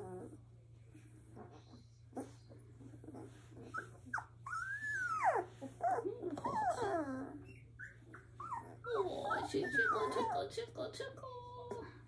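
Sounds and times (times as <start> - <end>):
puppies whining and squealing: 0.0 - 0.4, 1.2 - 10.7.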